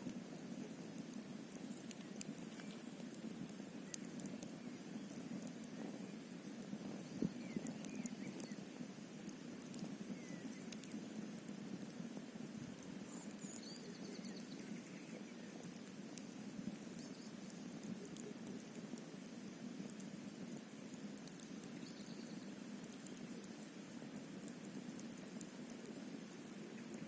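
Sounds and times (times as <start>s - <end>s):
campfire crackling: 0.0s - 27.0s
low rush of fire: 0.0s - 27.0s
sharp fire pops: 0.0s - 27.0s.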